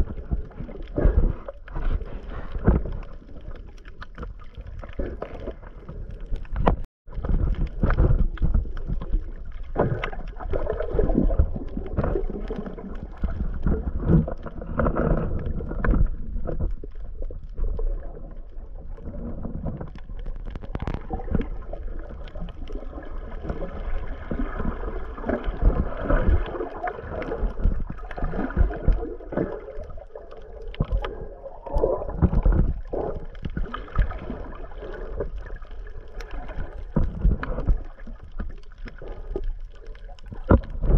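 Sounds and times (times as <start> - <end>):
muffled water sloshing underwater: 0.0 - 40.9
small crackles: 0.0 - 40.9.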